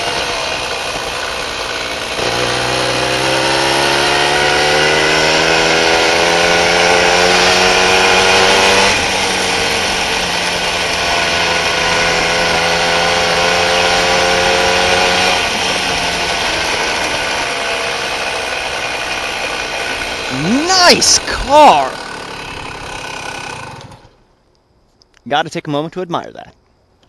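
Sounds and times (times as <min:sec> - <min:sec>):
small engine revving: 0:00.0 - 0:24.2.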